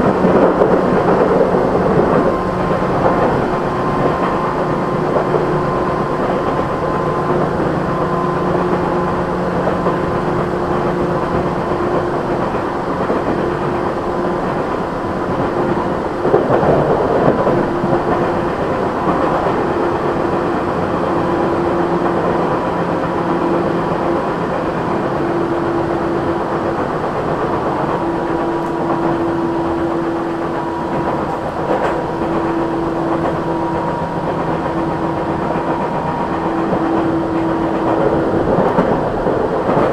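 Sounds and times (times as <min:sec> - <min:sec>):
train rattle: 0:00.0 - 0:39.9
train wheels rumbling on rail: 0:00.0 - 0:39.9.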